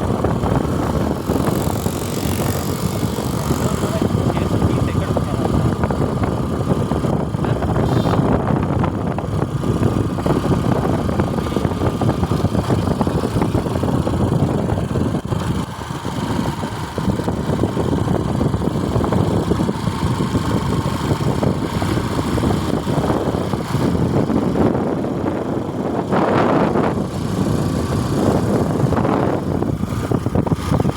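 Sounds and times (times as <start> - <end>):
vehicle engine running: 0.0 - 30.9.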